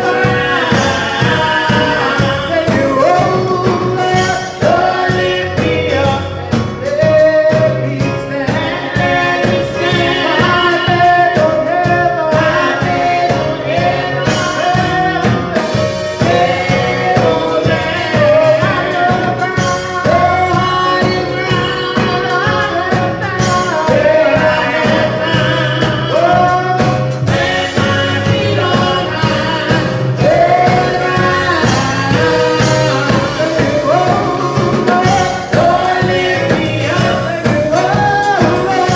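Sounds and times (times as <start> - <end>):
band with steady beat: 0.0 - 38.9
gospel voices singing: 0.0 - 38.9.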